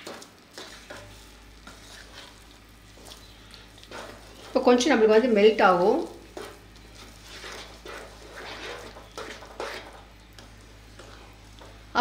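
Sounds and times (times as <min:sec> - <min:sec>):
wooden spatula stirring thick mixture: 0:00.0 - 0:12.0.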